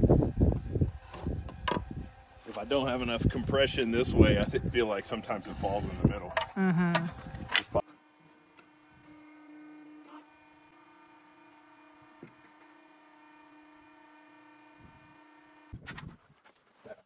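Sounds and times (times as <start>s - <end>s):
faint machine hum: 0.0s - 15.8s.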